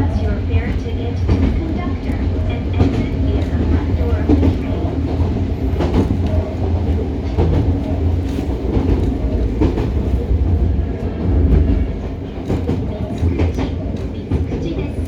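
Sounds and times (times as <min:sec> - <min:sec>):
train car rumble: 0:00.0 - 0:15.0
wheels clacking over rail joints: 0:00.0 - 0:15.0.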